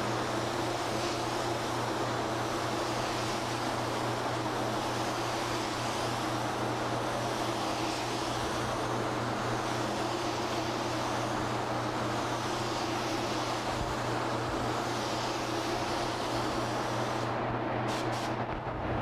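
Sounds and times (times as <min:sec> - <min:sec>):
spray gun air hiss: 0:00.0 - 0:18.5.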